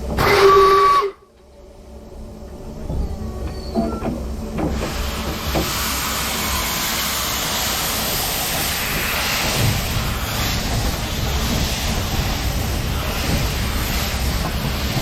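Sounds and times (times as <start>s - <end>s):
steam hissing: 0.0s - 1.2s, 3.4s - 15.0s.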